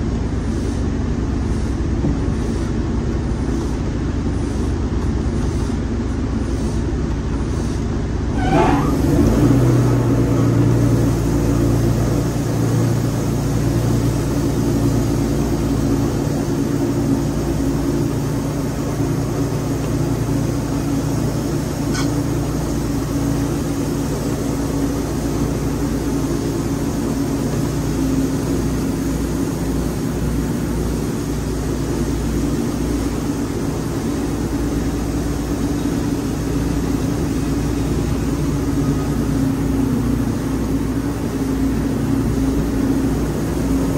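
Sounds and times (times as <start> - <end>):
sawmill engine droning: 0.0 - 43.9.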